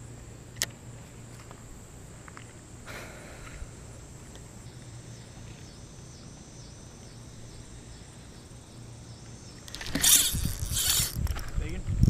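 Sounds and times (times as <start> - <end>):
insects trilling: 0.0 - 11.8
low even hum: 0.0 - 12.0.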